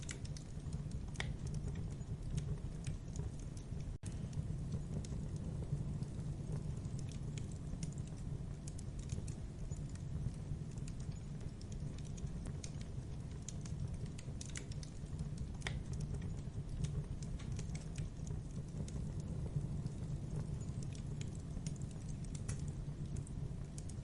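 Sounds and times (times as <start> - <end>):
burning wood crackling and popping: 0.0 - 24.0
campfire flames rumbling: 0.0 - 24.0.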